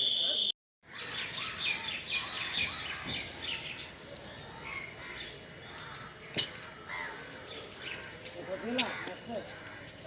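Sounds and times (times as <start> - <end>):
small birds chirping: 0.2 - 10.0.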